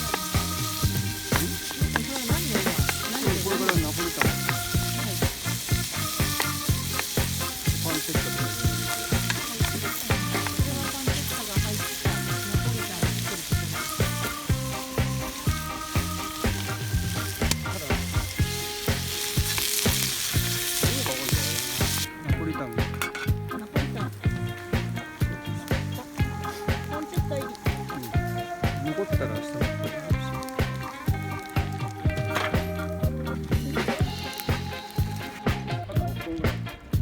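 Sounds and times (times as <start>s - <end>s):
food sizzling in a pan: 0.0s - 36.1s
background music with a beat: 0.0s - 37.0s.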